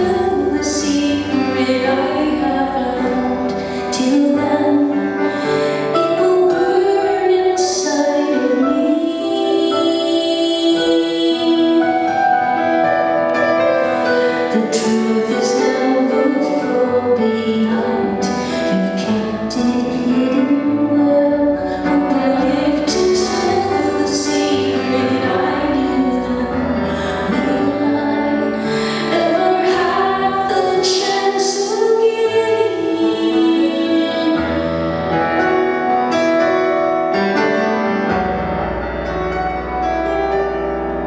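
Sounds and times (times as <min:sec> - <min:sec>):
woman singing a slow ballad: 0:00.0 - 0:12.2, 0:14.1 - 0:35.8
piano accompaniment: 0:00.0 - 0:41.0.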